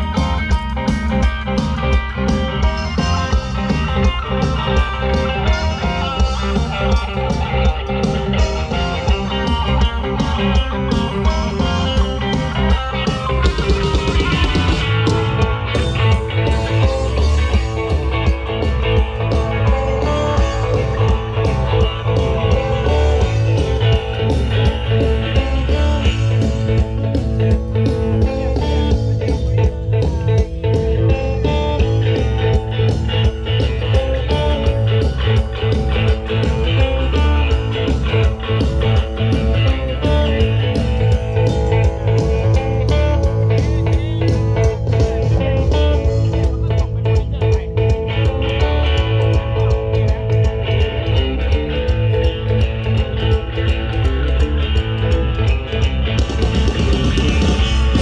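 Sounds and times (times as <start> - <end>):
electric guitar: 0.0 - 58.0
heavy bass line: 0.0 - 58.0
live band playing: 0.0 - 58.0
steady drum beat: 0.0 - 58.0.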